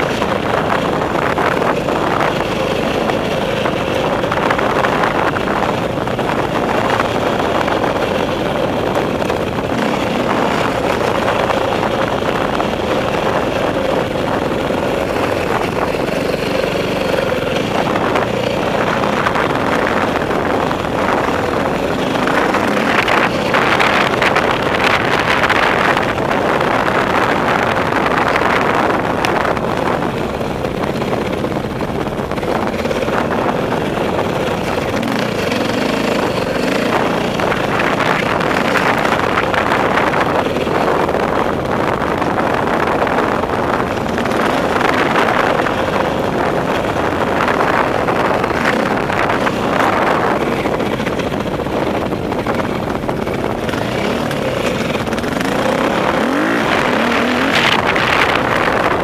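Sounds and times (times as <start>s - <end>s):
dirt bike engine revving: 0.0s - 59.0s
wind buffeting microphone: 0.0s - 59.0s.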